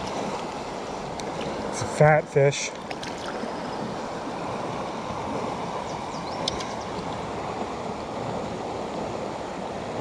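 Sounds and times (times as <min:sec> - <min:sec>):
river current rushing over rocks: 0:00.0 - 0:10.0.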